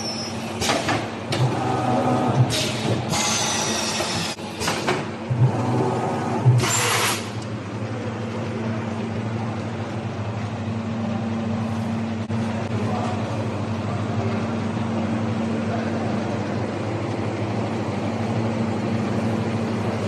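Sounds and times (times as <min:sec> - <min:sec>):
machine mechanical hum: 0:00.0 - 0:20.0.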